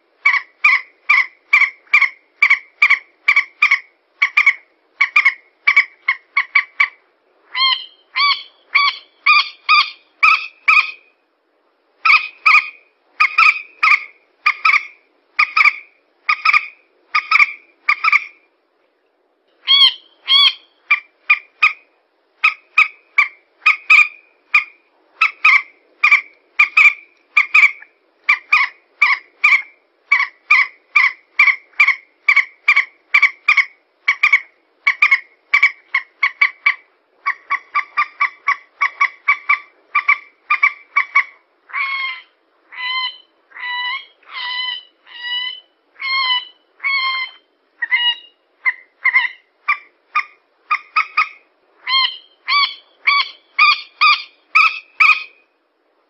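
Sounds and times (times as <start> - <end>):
moorhen calling: 0.0 - 11.1, 12.0 - 18.4, 19.6 - 55.5.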